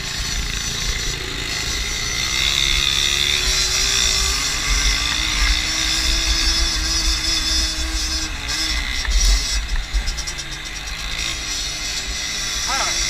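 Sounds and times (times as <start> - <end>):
moped engines running: 0.0 - 13.0.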